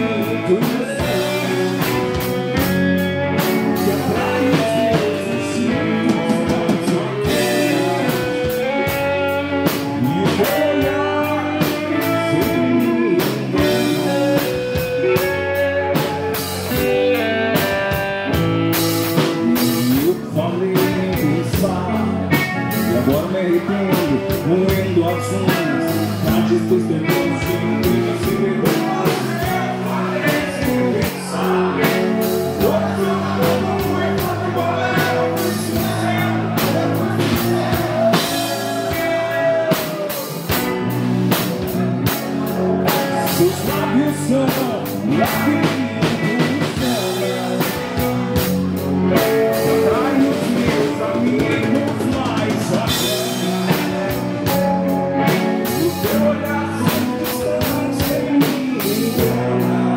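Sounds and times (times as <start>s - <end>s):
drum kit: 0.0s - 59.9s
electric guitars: 0.0s - 59.9s.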